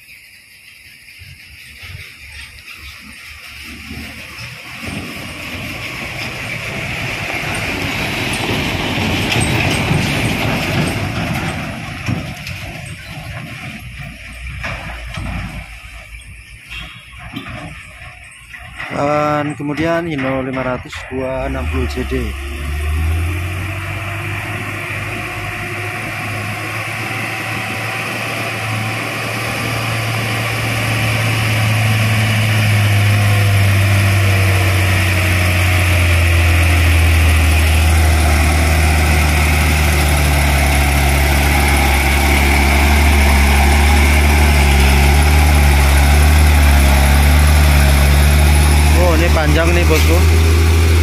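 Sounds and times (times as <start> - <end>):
truck diesel engine running: 0.8 - 51.0.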